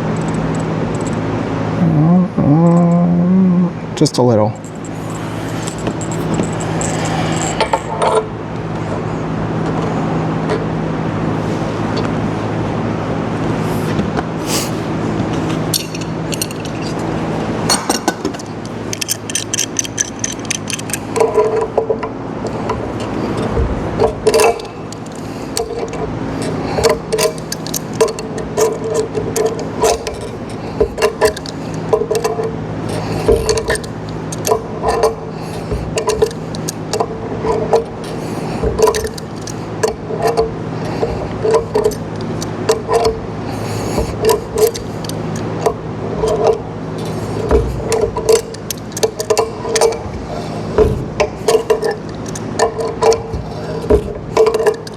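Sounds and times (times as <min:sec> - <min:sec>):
metal parts clicking and clinking: 0:00.0 - 0:01.2, 0:04.0 - 0:09.0, 0:15.3 - 0:54.9
steady low hum: 0:00.0 - 0:54.9.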